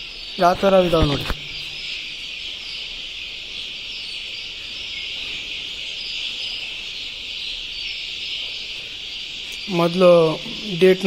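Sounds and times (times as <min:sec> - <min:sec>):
chicks peeping chorus: 0:00.0 - 0:11.0.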